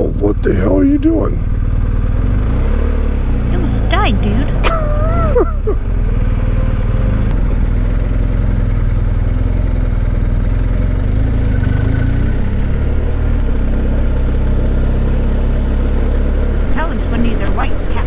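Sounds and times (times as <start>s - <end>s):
motorcycle engine running: 0.0s - 18.0s
wind and road noise: 1.0s - 18.0s.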